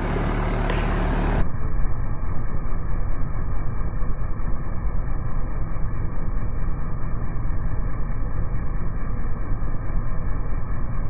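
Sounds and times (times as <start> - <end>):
air conditioner unit droning: 0.0 - 11.0.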